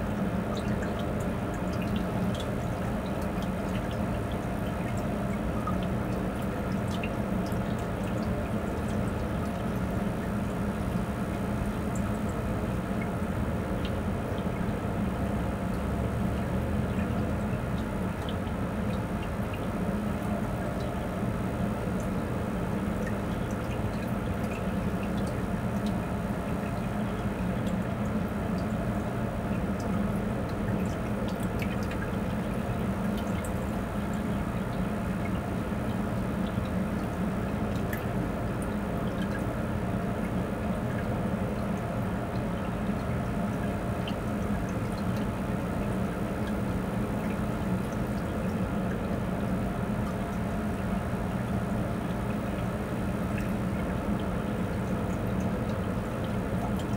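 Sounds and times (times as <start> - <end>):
pump humming: 0.0 - 56.9
water trickling: 0.0 - 56.9.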